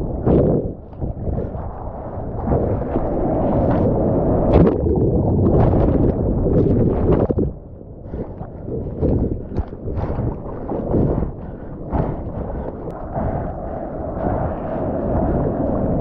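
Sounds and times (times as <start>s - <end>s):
surf water rushing and splashing: 0.0s - 16.0s.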